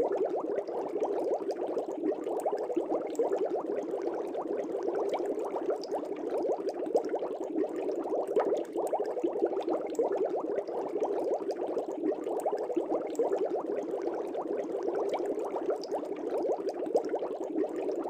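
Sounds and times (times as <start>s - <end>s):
aquarium air bubbling: 0.0s - 18.0s.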